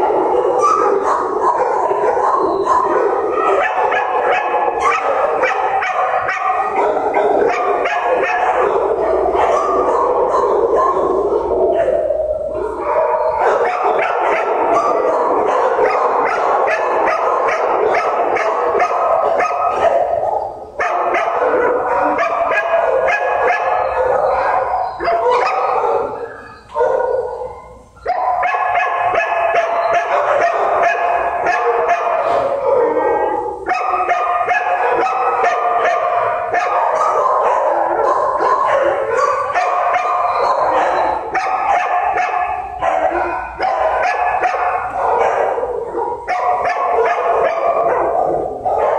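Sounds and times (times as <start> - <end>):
dogs barking and howling: 0.0 - 48.9.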